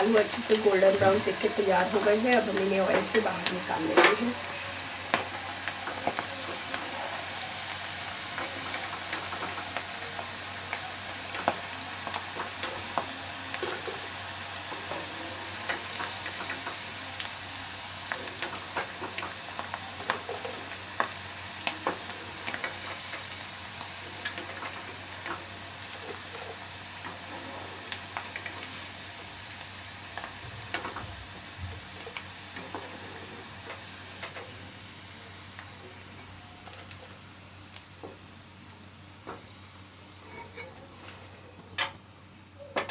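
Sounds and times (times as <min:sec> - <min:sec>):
potatoes deep-frying in oil: 0:00.0 - 0:42.9.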